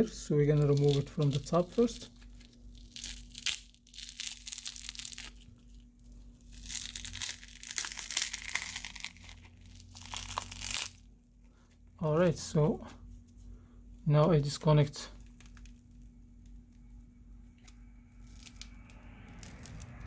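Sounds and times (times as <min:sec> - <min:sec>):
phone screen glass crackling: 0:00.0 - 0:11.1, 0:14.7 - 0:19.9.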